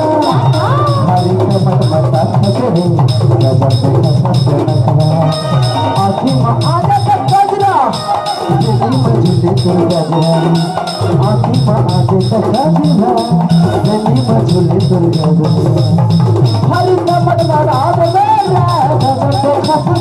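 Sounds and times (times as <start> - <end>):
fast dholak beat: 0.0 - 20.0
keyboard melody: 0.0 - 20.0.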